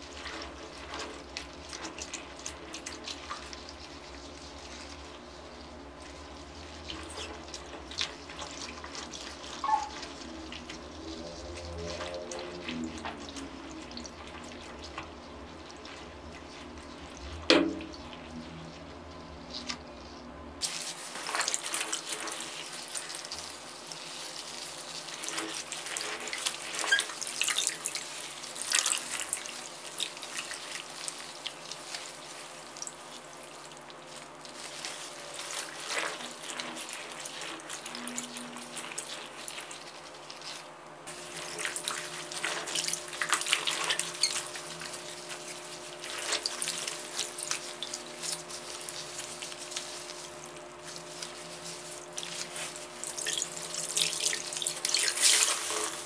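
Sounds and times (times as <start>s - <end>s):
wet clothes squelching: 0.0s - 19.8s, 20.6s - 56.0s
water sloshing in a plastic basin: 0.0s - 56.0s.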